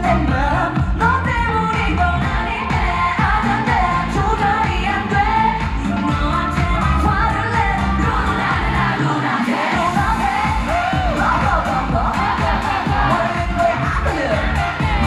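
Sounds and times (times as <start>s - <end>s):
pop song over loudspeakers: 0.0s - 15.0s
steady bass beat: 0.0s - 15.0s
woman singing live: 0.0s - 15.0s.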